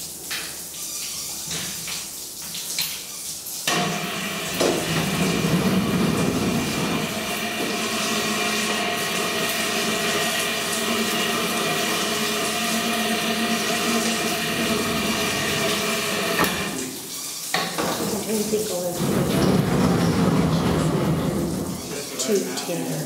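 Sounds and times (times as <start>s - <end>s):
water running: 0.0s - 23.0s.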